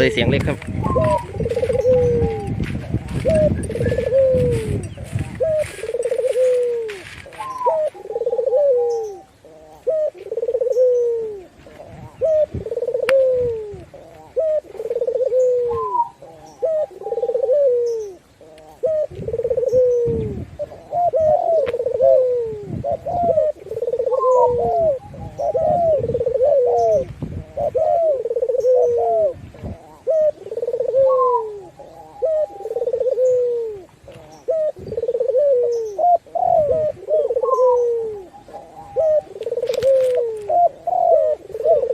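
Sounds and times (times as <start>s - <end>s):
doves cooing: 0.0s - 41.9s.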